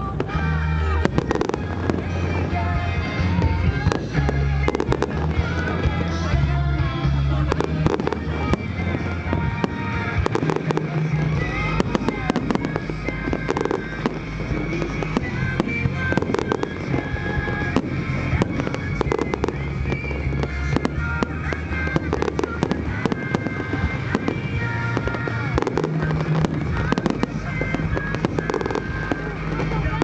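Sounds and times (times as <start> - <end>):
fireworks bursting and crackling: 0.0 - 30.0
loud music: 0.0 - 30.0.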